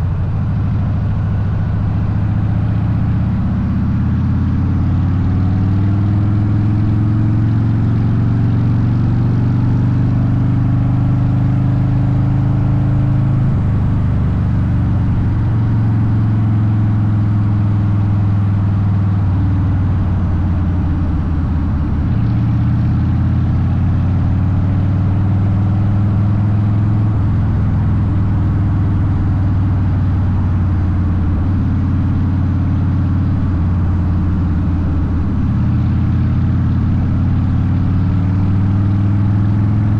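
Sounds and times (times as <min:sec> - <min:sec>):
motorcycle engine at road speed: 0:00.0 - 0:39.9.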